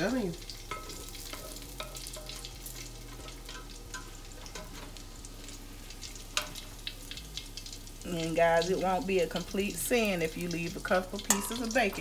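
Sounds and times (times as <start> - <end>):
bacon fat sizzling and popping: 0.0 - 12.0.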